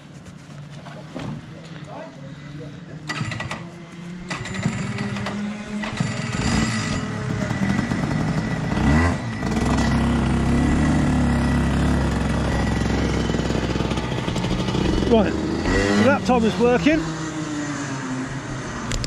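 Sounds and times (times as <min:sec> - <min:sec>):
faint engine noise: 0:00.0 - 0:19.0
kart engine running: 0:02.8 - 0:19.0.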